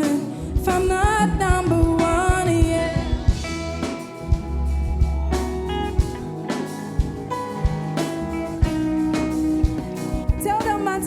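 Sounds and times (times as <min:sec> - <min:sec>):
bass guitar: 0:00.0 - 0:11.0
drum kit steady beat: 0:00.0 - 0:11.0
electric guitar: 0:00.0 - 0:11.0.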